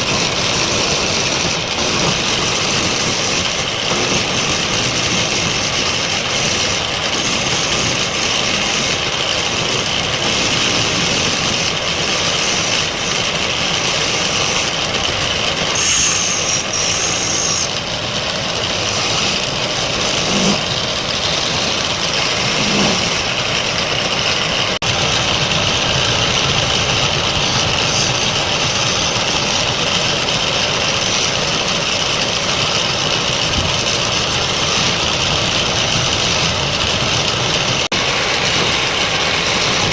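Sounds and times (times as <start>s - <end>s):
wood lathe running: 0.0s - 39.9s.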